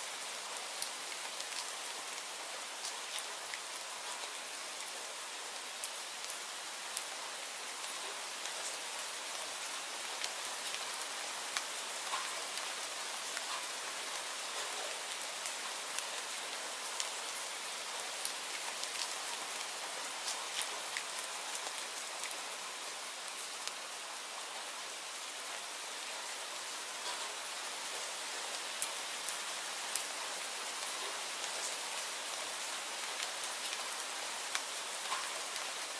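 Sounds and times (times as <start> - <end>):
steady rainfall: 0.0 - 35.9.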